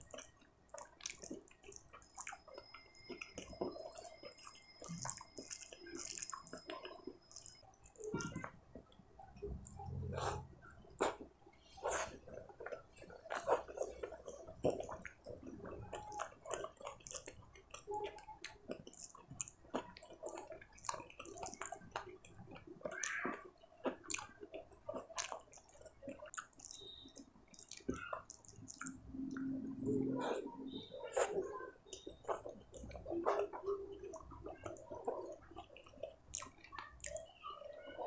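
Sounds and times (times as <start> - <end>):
wet chewing and lip smacks: 0.0 - 38.0.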